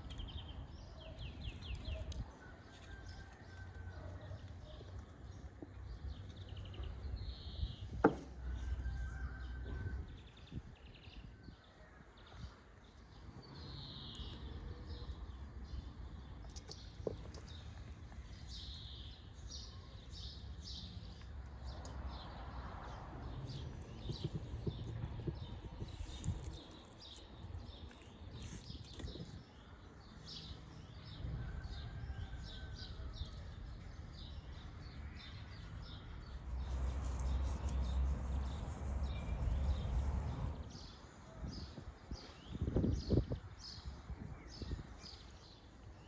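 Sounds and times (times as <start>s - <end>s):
small birds chirping: 0.0s - 3.6s, 10.1s - 31.2s, 32.1s - 46.0s.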